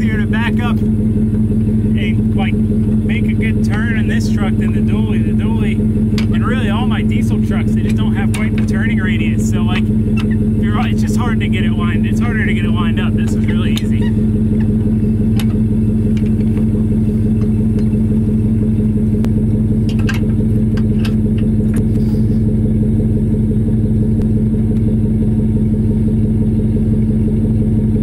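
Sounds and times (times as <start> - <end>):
pickup truck engine idling: 0.0 - 28.0.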